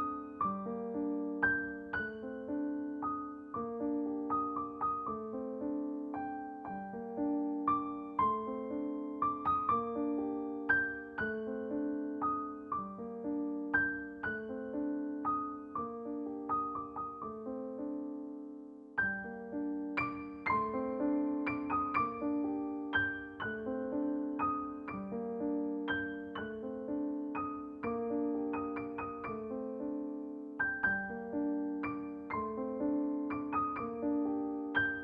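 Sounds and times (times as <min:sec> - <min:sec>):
gentle piano melody: 0:00.0 - 0:35.0.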